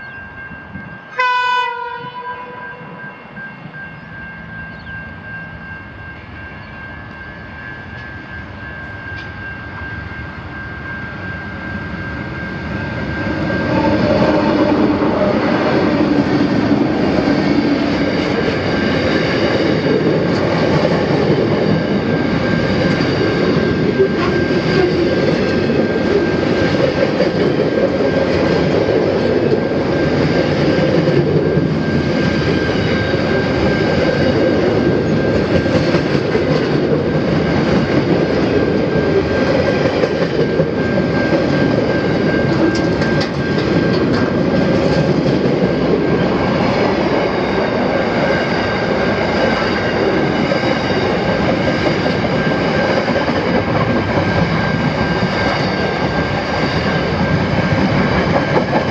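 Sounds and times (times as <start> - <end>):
steel wheels rumbling on rails: 0.0 - 58.9
high-pitched whine: 2.8 - 58.9.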